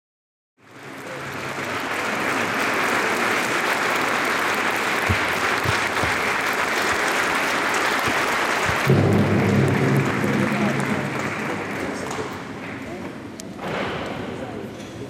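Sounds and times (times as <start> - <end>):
audience applauding: 0.6 - 13.3.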